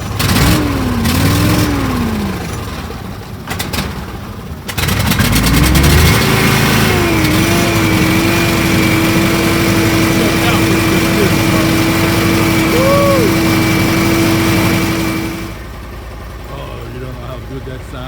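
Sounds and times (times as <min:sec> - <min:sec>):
engine revving unevenly: 0:00.0 - 0:15.8, 0:16.5 - 0:18.0.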